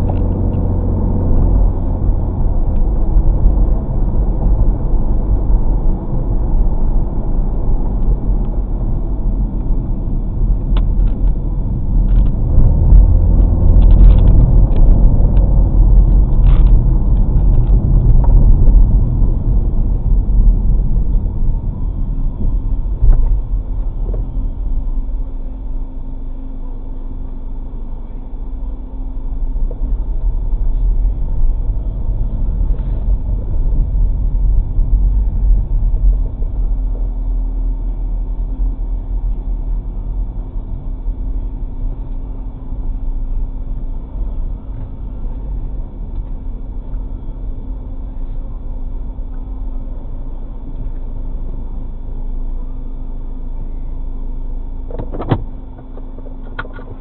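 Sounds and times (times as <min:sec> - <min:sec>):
car driving rumble inside cabin: 0:00.0 - 0:57.0.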